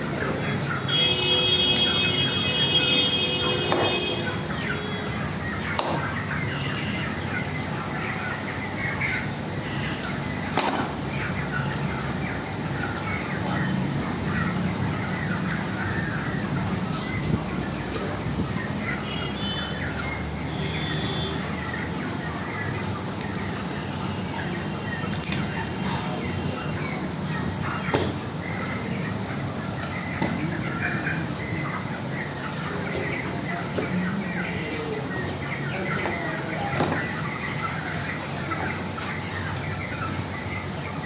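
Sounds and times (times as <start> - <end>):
busy shop or street din: 0.0 - 41.0.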